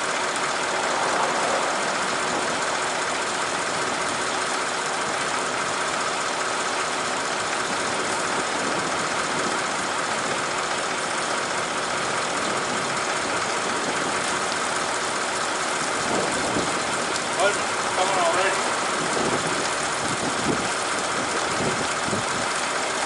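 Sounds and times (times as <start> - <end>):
fire engine running: 0.0 - 23.0
fire pump pumping water: 0.0 - 23.0.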